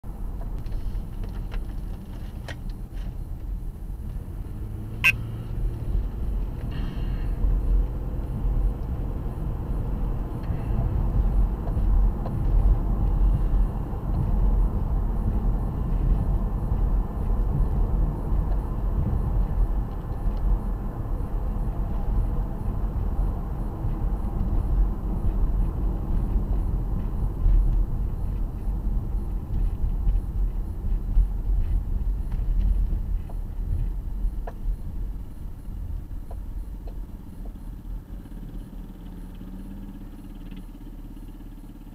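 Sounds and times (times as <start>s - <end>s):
car road and engine noise: 0.0s - 41.9s.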